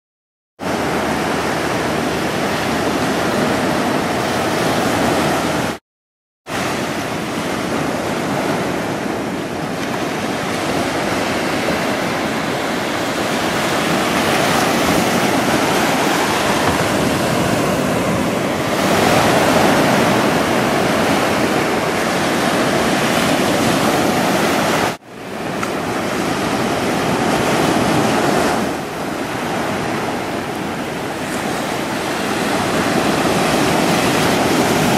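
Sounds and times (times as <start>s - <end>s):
ocean surf washing onto beach: 0.6s - 5.8s, 6.5s - 34.9s.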